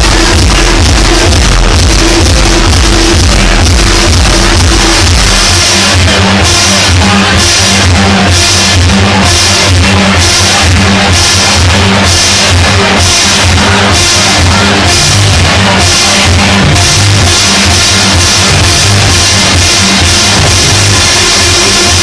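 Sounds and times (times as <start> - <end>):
electronic dance music: 0.0 - 22.0.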